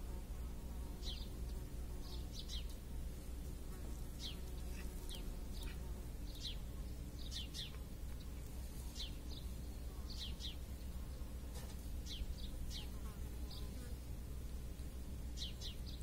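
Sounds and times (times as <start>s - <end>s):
small birds chirping: 0.9s - 2.9s, 3.7s - 14.1s, 15.3s - 16.0s.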